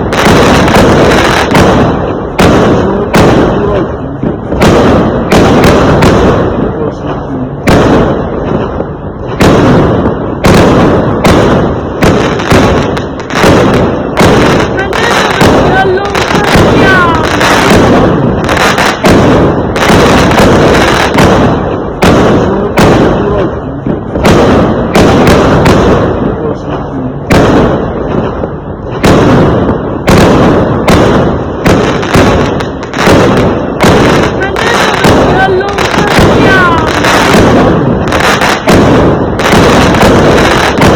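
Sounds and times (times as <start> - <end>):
fireworks bangs rumbling: 0.0 - 40.9.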